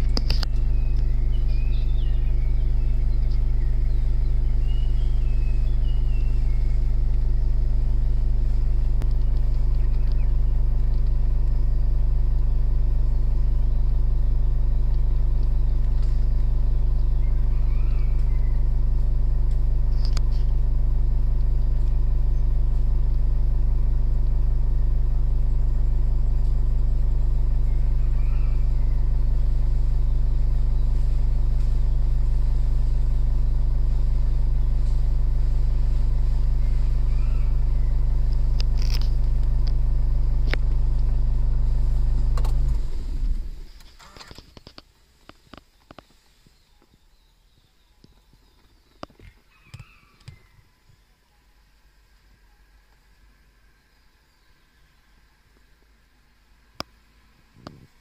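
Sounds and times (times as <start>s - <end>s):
car engine idling: 0.0s - 46.4s
birds chirping: 0.0s - 58.0s.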